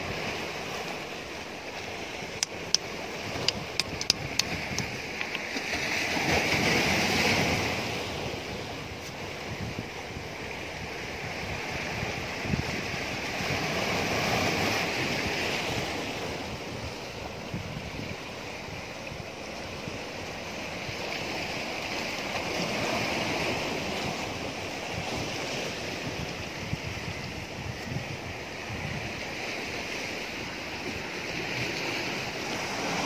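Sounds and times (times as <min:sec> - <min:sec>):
sea surf washing against rocks: 0:00.0 - 0:33.0
wind buffeting microphone: 0:01.9 - 0:33.0.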